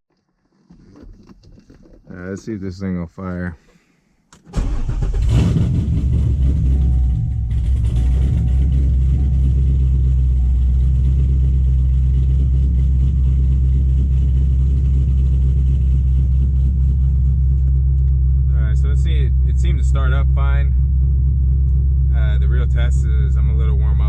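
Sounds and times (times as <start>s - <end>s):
car engine revving then idling: 4.6s - 24.0s.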